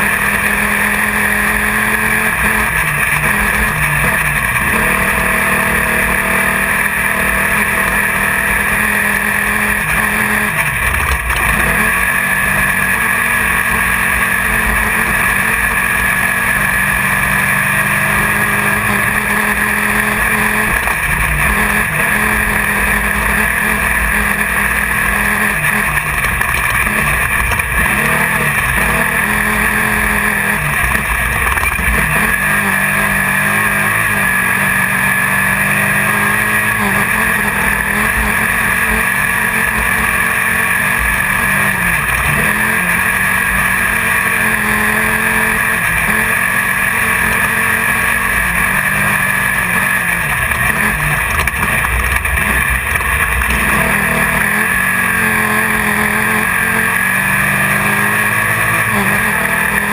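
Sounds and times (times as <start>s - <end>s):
race buggy engine revving: 0.0s - 59.9s
steady rushing noise: 0.0s - 59.9s.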